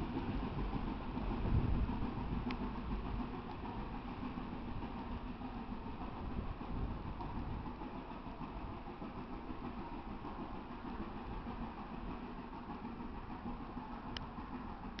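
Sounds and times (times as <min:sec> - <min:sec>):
steam train rumble: 0:00.0 - 0:15.0.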